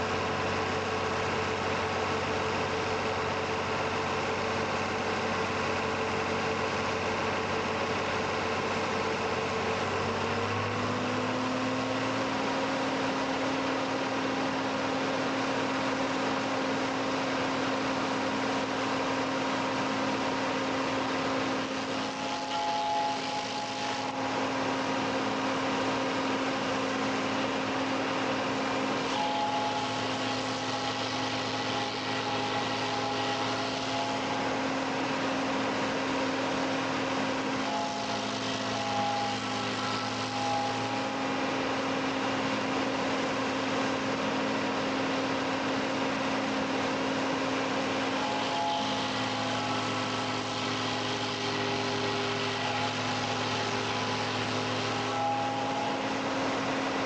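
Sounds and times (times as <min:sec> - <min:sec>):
tractor engine drone: 0:00.0 - 0:57.0.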